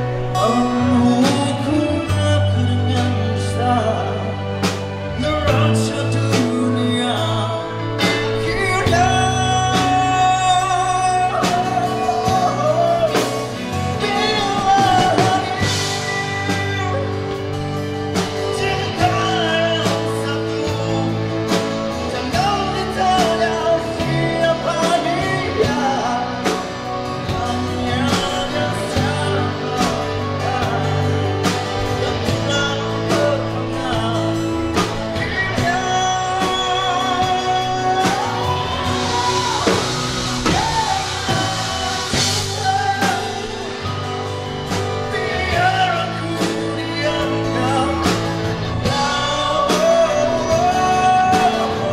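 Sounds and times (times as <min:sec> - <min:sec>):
live rock band playing: 0:00.0 - 0:51.9
man singing: 0:00.0 - 0:51.9.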